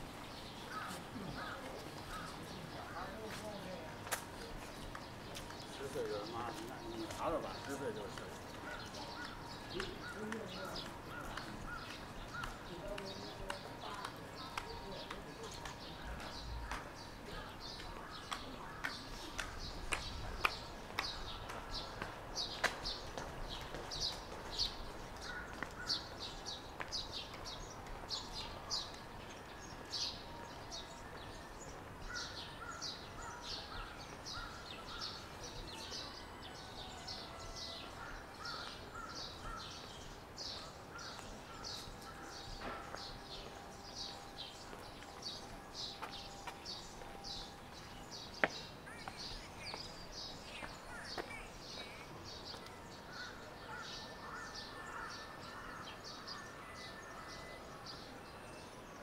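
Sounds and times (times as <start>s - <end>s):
lower bird chatter: 0.0s - 30.2s, 32.0s - 56.6s
birds chirping: 0.0s - 59.0s.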